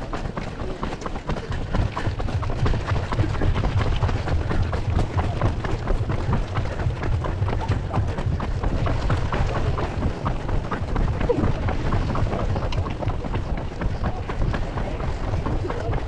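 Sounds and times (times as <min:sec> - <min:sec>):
runners' footsteps on road: 0:00.0 - 0:16.0
low rumble: 0:01.6 - 0:16.0.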